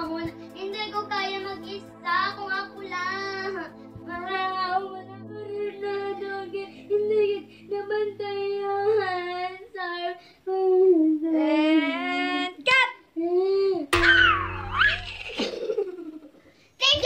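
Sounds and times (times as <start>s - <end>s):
low musical accompaniment: 0.0s - 12.0s, 14.0s - 16.3s
child singing: 0.0s - 13.9s.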